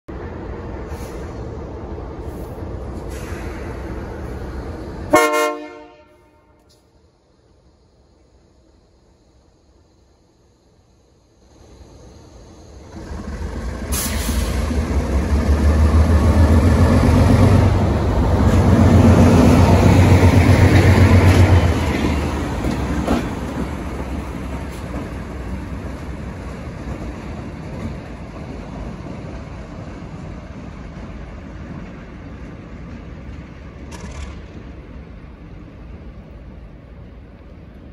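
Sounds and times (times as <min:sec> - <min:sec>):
diesel locomotive engine rumbling: 0:00.1 - 0:37.9.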